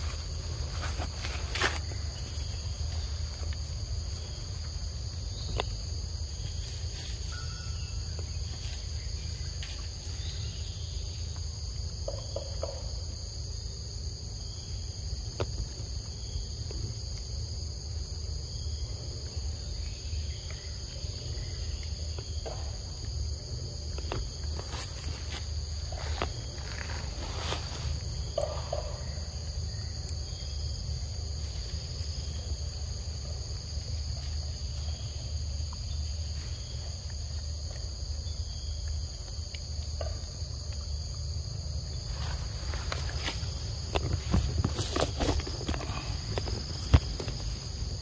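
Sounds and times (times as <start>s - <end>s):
insects chorus: 0.0s - 48.0s.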